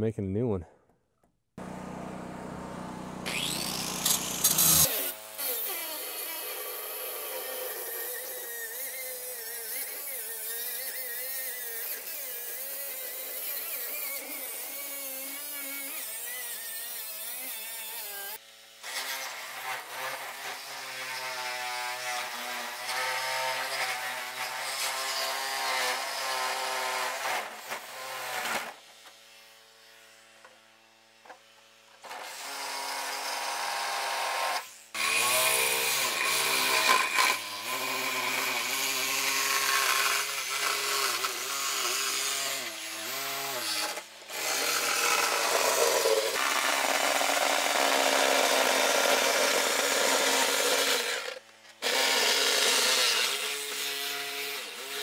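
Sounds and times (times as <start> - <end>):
angle grinder cutting steel: 1.6 - 29.5, 32.0 - 55.0.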